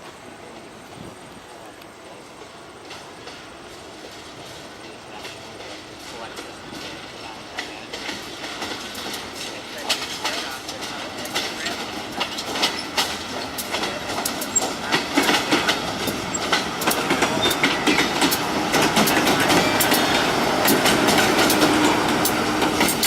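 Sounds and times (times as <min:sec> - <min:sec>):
train wheels clacking on rails: 0:00.0 - 0:23.0.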